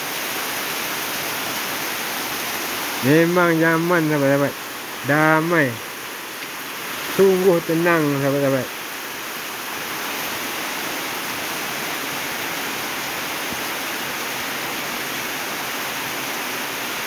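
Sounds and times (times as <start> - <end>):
heavy rain on a roof: 0.0 - 17.0.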